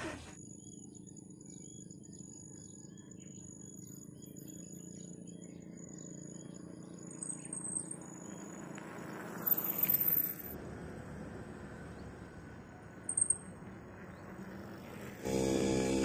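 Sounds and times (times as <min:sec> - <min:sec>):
small birds chirping: 0:00.0 - 0:10.6, 0:11.7 - 0:16.0
insects droning: 0:00.0 - 0:16.0.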